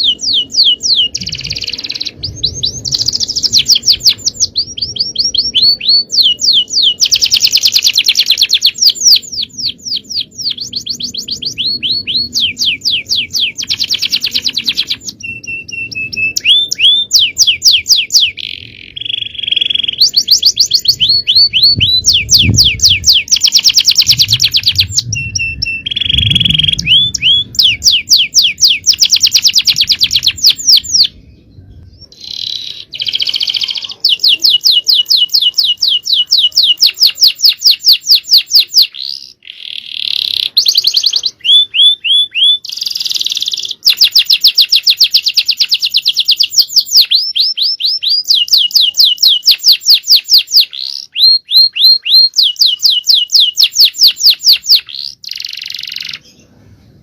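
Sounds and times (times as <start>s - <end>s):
canary singing trills: 0.0s - 56.5s.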